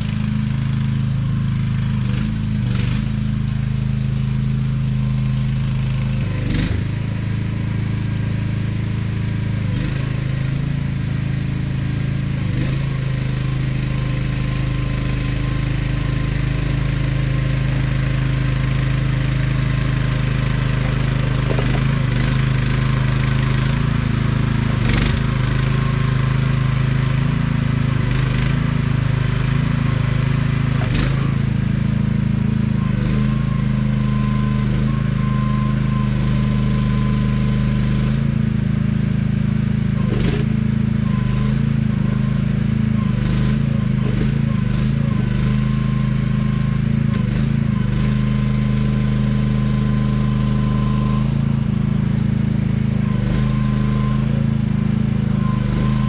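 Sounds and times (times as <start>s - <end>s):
excavator engine running: 0.0s - 56.0s.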